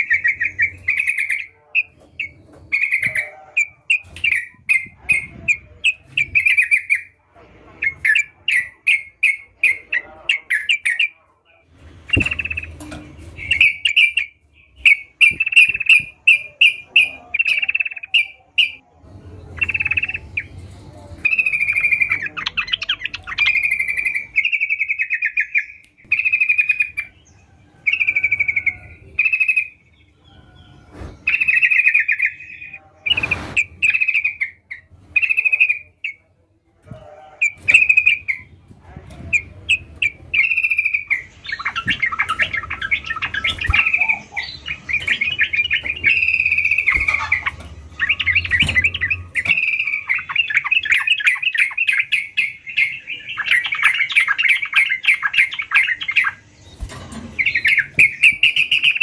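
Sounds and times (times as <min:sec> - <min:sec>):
bird singing bubbly chatter: 0:00.0 - 0:07.2, 0:07.8 - 0:36.3, 0:39.2 - 0:59.0.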